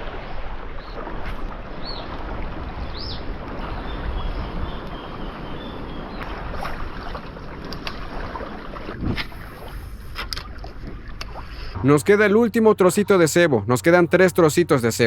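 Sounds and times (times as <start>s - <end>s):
wind rumbling on microphone: 0.0s - 12.2s
sea noise: 0.0s - 15.0s
wind: 0.0s - 15.0s.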